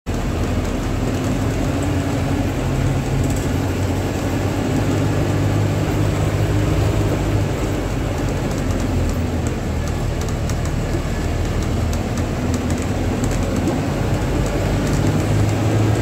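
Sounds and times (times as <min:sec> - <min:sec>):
road and wind noise: 0:00.1 - 0:16.0
vehicle engine droning: 0:00.1 - 0:16.0.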